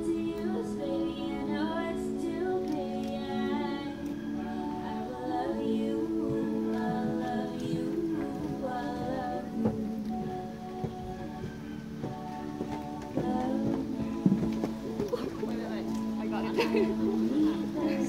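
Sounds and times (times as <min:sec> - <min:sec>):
wedding processional music: 0:00.0 - 0:18.0.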